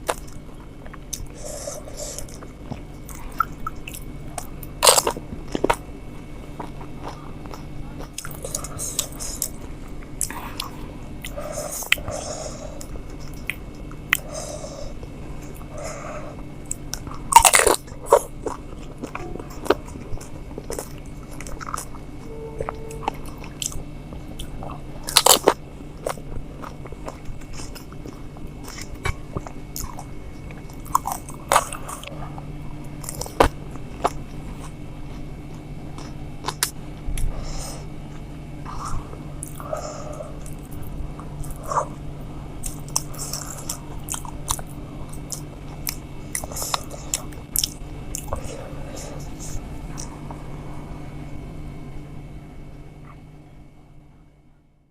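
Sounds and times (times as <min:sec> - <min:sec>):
crisp shells crunching and chewed: 0:00.0 - 0:50.2
steady low hum: 0:00.0 - 0:54.9.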